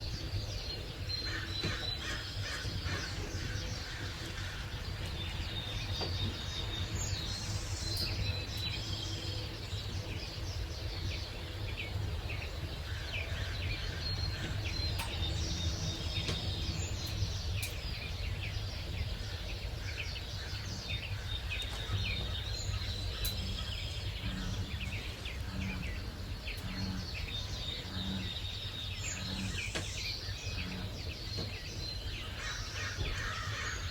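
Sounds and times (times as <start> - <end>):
birds chirping and singing: 0.0 - 33.9
steady low rumble: 0.0 - 33.9.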